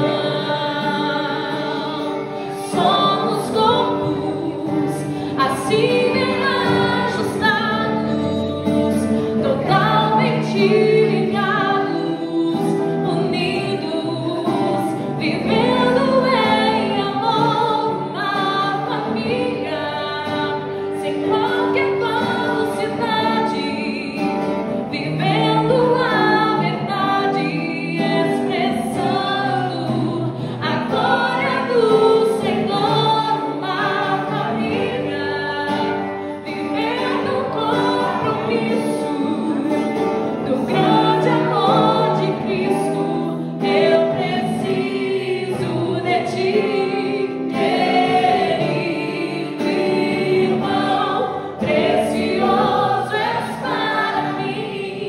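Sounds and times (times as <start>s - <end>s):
voices singing sustained notes: 0.0s - 55.0s.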